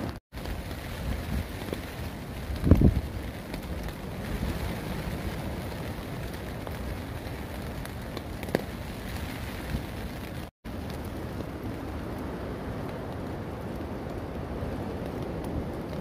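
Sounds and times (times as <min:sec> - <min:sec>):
rain on a tarp: 0:00.0 - 0:16.0.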